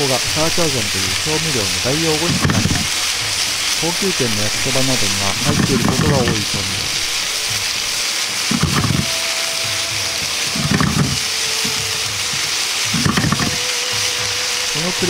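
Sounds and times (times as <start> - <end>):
vegetables rustling: 0.0 - 15.0
vegetables sizzling in a pan: 0.0 - 15.0.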